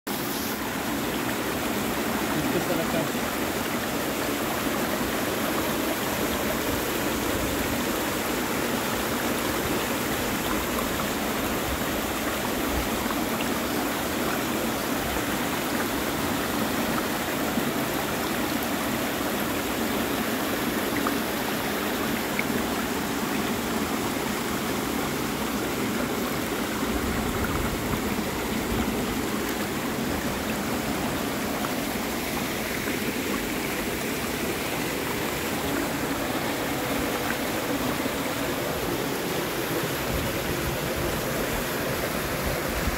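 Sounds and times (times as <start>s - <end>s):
stream splashing over rocks: 0.1s - 42.9s.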